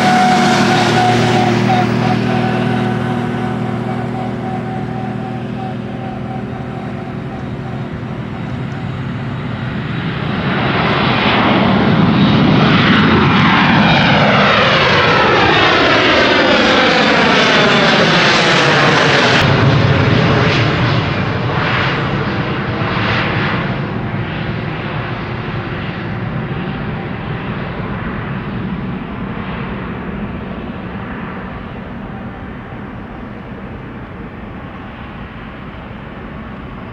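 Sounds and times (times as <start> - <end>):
airplane passing overhead: 0.0 - 36.9.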